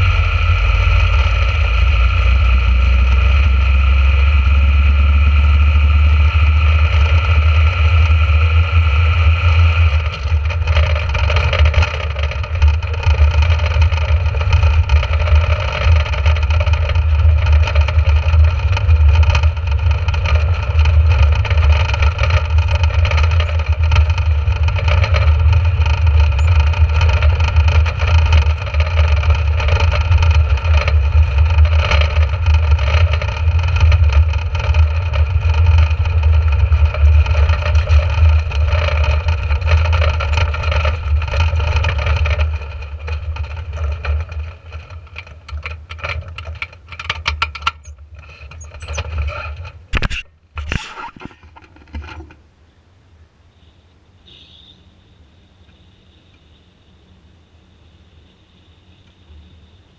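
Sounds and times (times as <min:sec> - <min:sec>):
dragster engine running: 0:00.0 - 0:52.3
knocks and rattles: 0:00.0 - 0:52.4.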